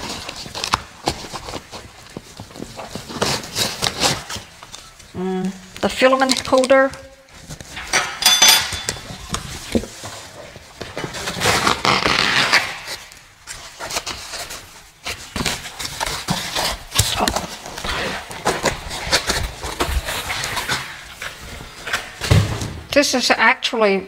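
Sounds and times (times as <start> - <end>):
foam packing rustling: 0.0 - 7.9, 8.8 - 22.9.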